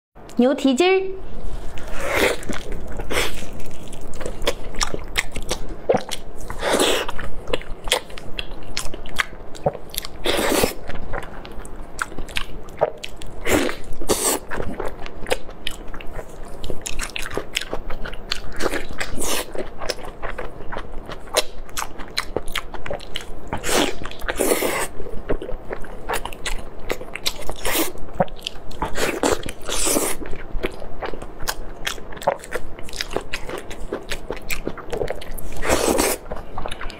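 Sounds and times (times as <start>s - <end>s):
person chewing meat: 1.5s - 36.9s.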